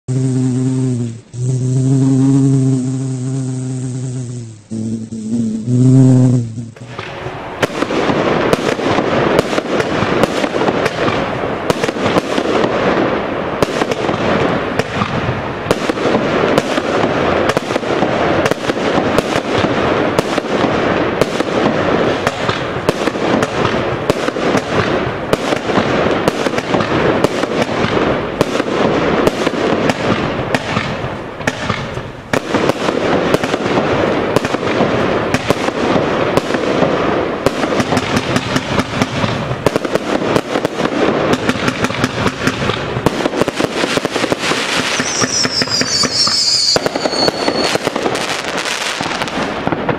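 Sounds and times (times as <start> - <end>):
fireworks barrage of shots: 5.6 - 49.9.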